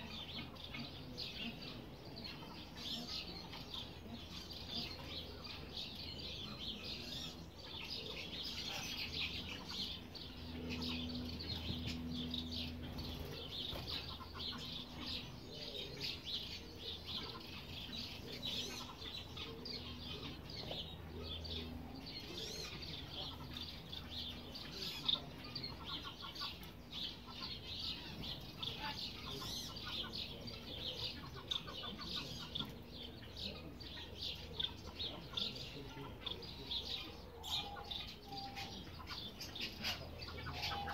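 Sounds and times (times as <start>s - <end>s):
birds chirping and peeping: 0.0s - 40.9s
low steady hum: 0.0s - 40.9s.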